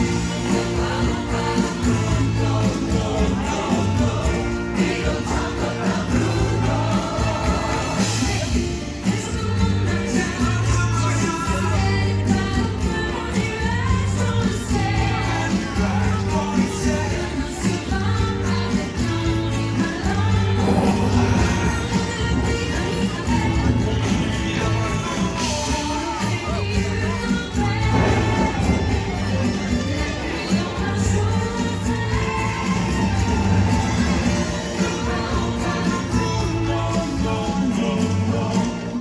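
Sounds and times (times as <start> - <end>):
upbeat pop song over loudspeakers: 0.0 - 39.0.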